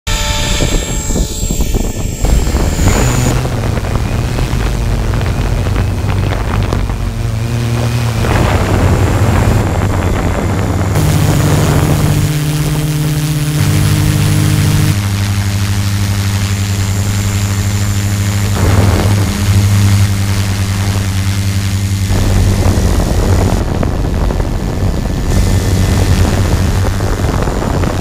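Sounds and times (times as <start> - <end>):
drone motors humming: 0.1 - 28.0
helicopter rotor: 0.1 - 28.0
wind buffeting microphone: 0.1 - 28.0.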